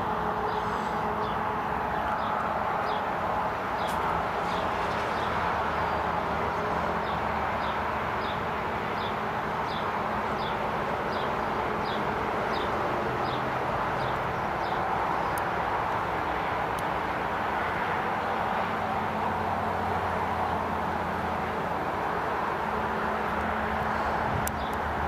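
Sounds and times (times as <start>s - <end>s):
distant helicopter drone: 0.0s - 25.0s.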